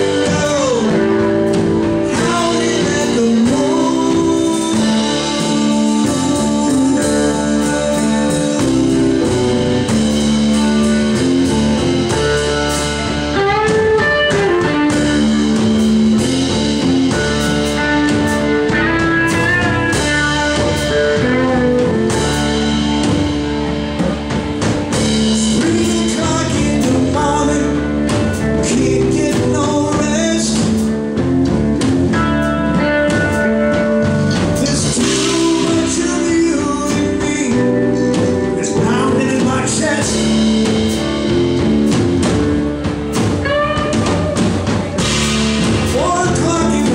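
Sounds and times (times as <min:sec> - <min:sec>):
blues band playing: 0:00.0 - 0:46.9.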